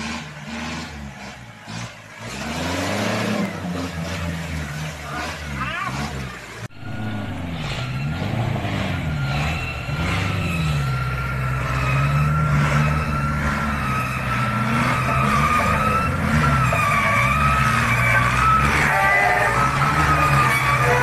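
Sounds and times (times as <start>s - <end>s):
engine revving under load: 0.0s - 21.0s.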